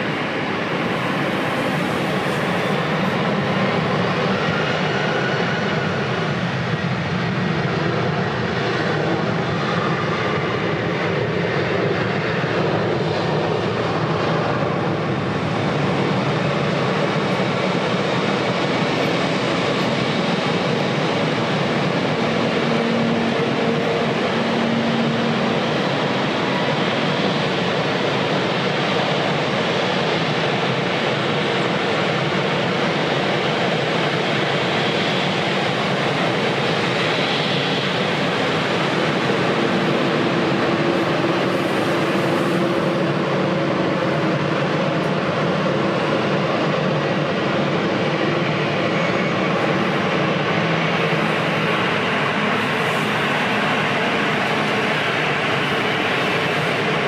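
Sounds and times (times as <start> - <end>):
jet airliner engine rush: 0.0 - 57.0.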